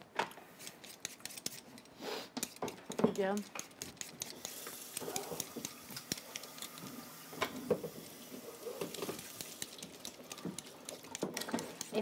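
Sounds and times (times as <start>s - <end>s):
utensils and cookware clicking: 0.6s - 8.0s, 8.7s - 12.0s.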